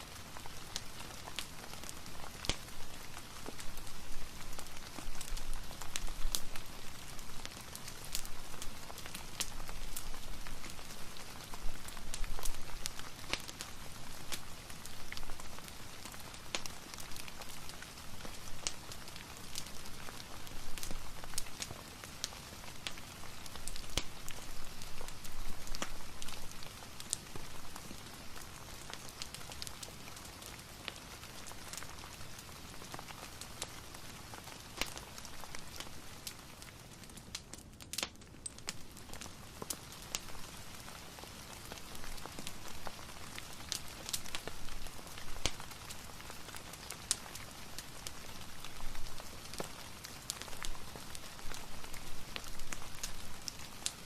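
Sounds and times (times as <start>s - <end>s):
fireplace crackling: 0.0s - 54.0s
steady rain hiss: 0.0s - 54.0s.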